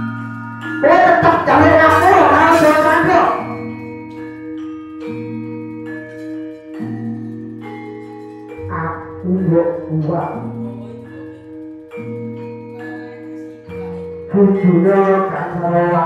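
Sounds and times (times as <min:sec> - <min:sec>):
metallophone and gong tones: 0:00.0 - 0:16.0.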